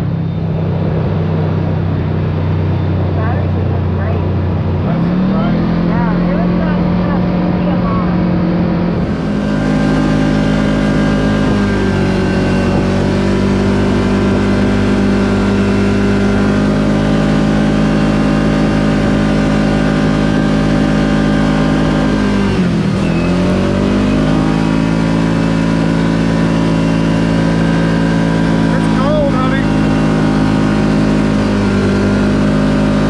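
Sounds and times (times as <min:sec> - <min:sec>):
utv engine running: 0:00.0 - 0:33.0.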